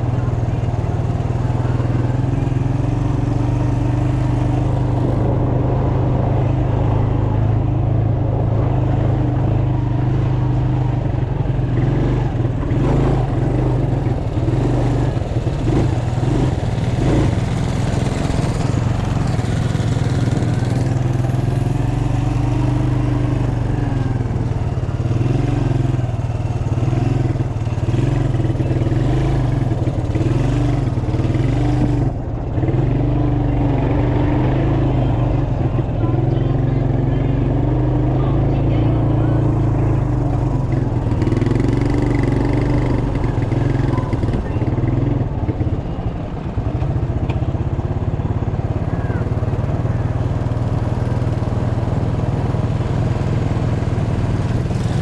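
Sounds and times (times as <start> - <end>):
small engine running: 9.4 - 55.0.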